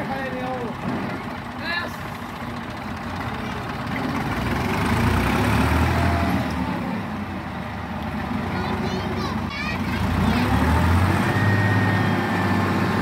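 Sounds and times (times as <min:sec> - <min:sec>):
tractor diesel engine revving: 0:00.0 - 0:13.0.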